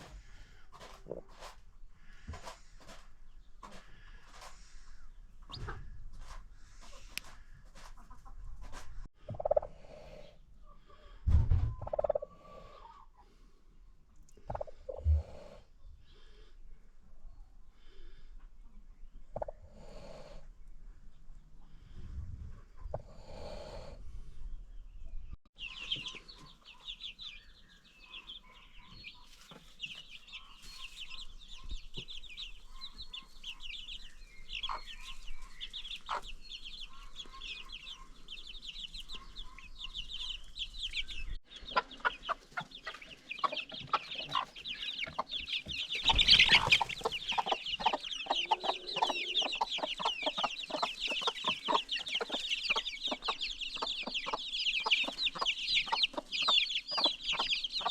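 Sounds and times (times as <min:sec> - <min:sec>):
hen clucking: 0:00.0 - 0:13.4, 0:14.2 - 0:15.7, 0:19.2 - 0:20.3, 0:25.6 - 0:57.9
baby chicks peeping: 0:00.0 - 0:57.9.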